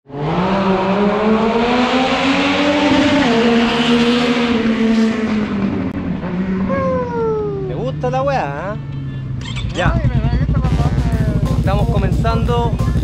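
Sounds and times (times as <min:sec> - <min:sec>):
engine pulling hard: 0:00.1 - 0:13.0.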